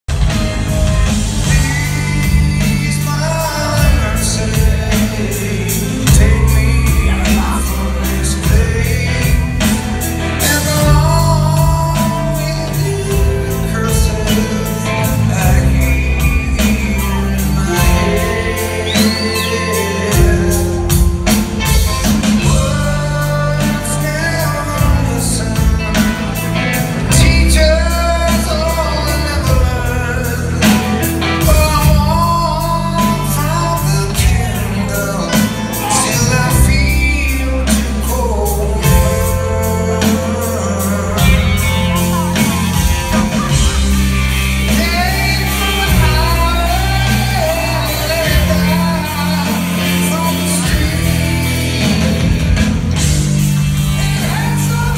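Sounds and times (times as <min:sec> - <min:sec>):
live rock band playing: 0:00.0 - 0:54.9
man singing lead vocal: 0:00.2 - 0:54.9.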